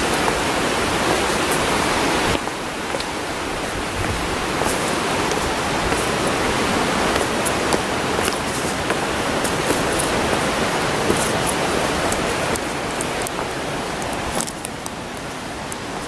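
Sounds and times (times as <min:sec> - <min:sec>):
footsteps on dry ground: 0:00.0 - 0:14.6
flowing water rushing: 0:00.0 - 0:16.0.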